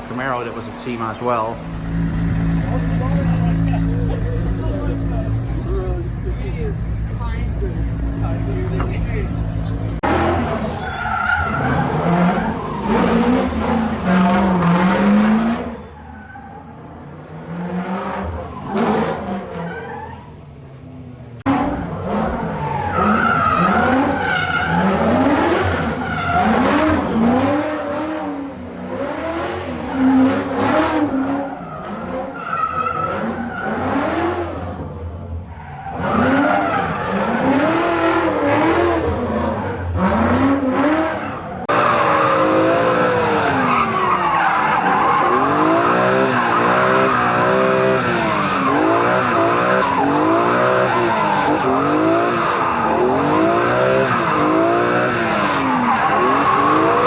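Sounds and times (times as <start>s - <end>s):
car engines revving: 0.0s - 57.0s
tyres squealing and skidding: 0.0s - 57.0s.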